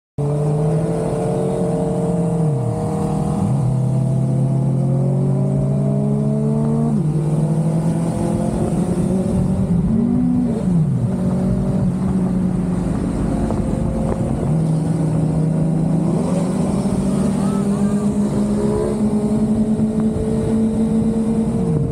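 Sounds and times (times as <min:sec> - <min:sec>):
wind and road noise: 0:00.2 - 0:21.9.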